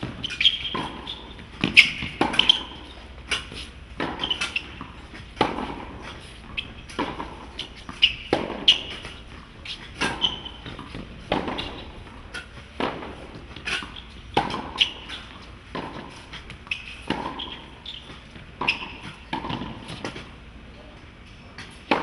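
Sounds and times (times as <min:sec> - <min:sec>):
rackets striking tennis ball: 0:00.0 - 0:20.4, 0:21.6 - 0:22.0
shoe squeaks on court: 0:00.0 - 0:20.4
tennis ball bouncing: 0:00.0 - 0:20.4, 0:21.6 - 0:22.0.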